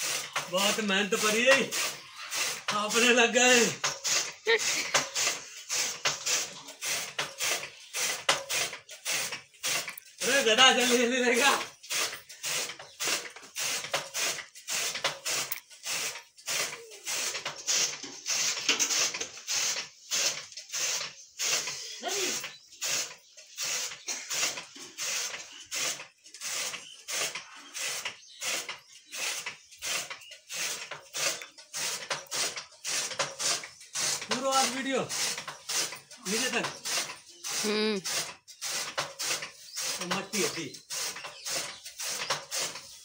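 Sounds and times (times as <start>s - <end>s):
chaff cutter chopping grass: 0.0s - 43.0s.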